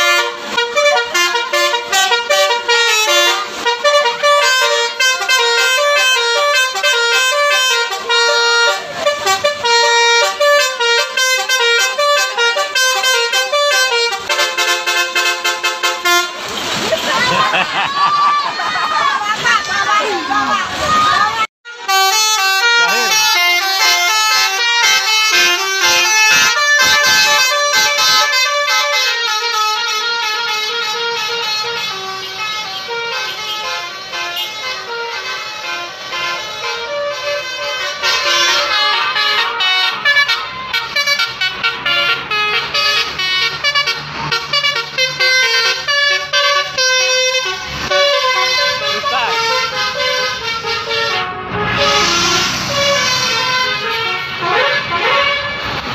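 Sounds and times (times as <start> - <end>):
bus horn playing melody: 0.0 - 16.8, 21.4 - 55.9.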